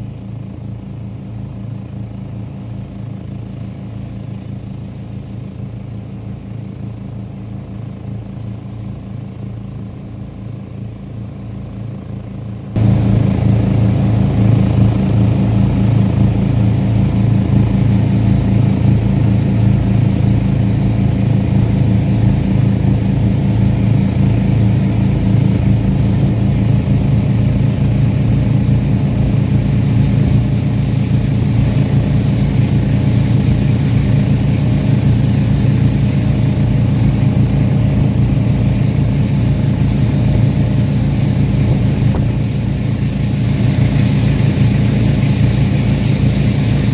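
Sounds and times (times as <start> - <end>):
engine droning: 0.0 - 46.9.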